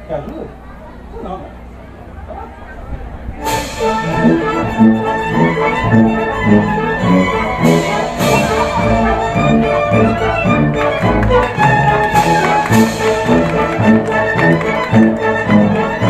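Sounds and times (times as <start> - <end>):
orchestra bowed strings: 2.8 - 16.0.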